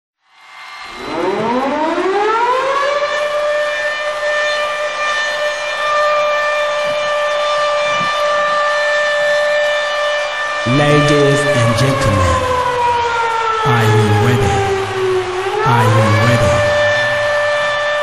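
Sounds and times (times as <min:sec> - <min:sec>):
siren wailing: 0:00.9 - 0:18.0.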